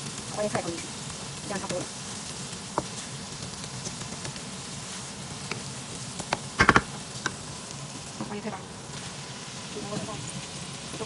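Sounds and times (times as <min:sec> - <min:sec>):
wooden spatula stirring ticks: 0:00.0 - 0:09.1
curry base sizzling in wok: 0:00.0 - 0:11.0.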